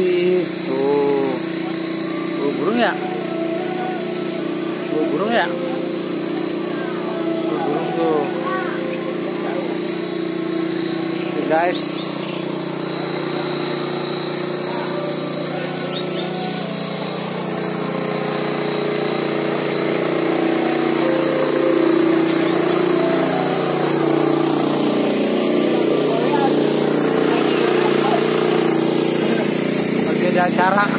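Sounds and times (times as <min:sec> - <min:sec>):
motor droning: 0:00.0 - 0:30.9.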